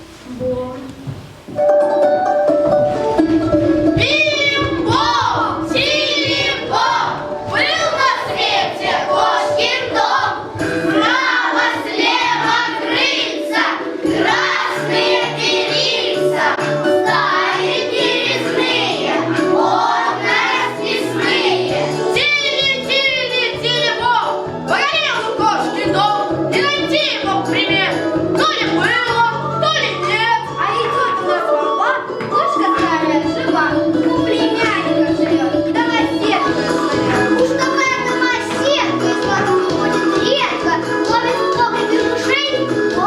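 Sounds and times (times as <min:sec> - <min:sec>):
instrumental accompaniment: 0:01.1 - 0:43.0
children singing: 0:03.8 - 0:43.0.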